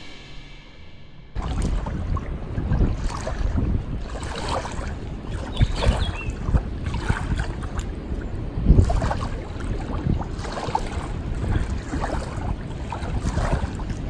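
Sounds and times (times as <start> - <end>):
wind gusting on microphone: 0.0 - 14.0
water lapping: 1.4 - 14.0.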